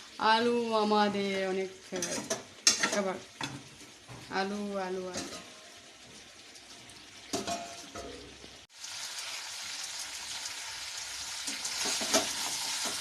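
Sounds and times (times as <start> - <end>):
curry sizzling in a pan: 0.0 - 13.0.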